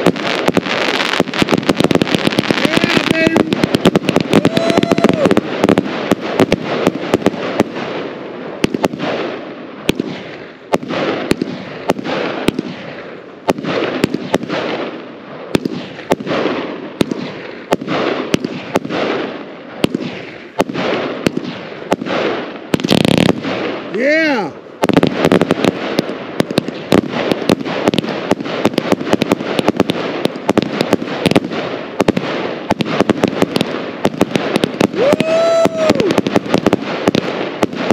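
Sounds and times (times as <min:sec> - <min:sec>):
firework reports: 0:00.0 - 0:37.9.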